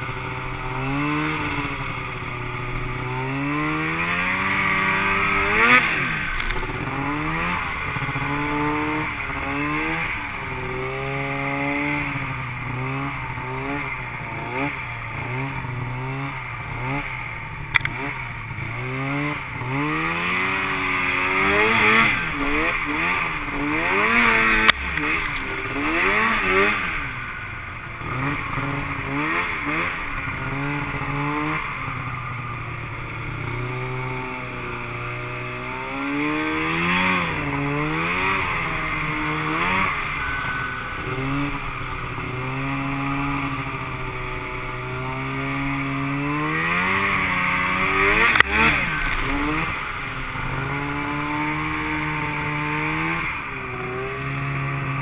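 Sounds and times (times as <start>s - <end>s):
snowmobile engine revving: 0.0s - 55.0s
steady rushing noise: 0.0s - 55.0s.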